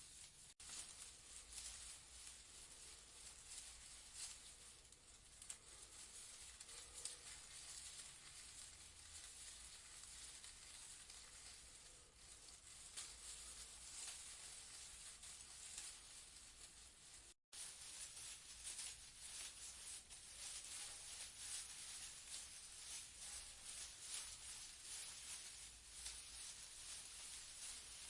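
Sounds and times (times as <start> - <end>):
leaves rustling in breeze: 0.0 - 28.0.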